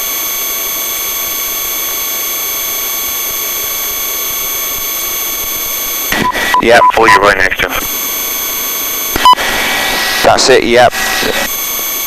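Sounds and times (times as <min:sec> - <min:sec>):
helicopter turbine and rotor noise: 0:00.0 - 0:12.0
high constant whining tones: 0:00.0 - 0:12.0.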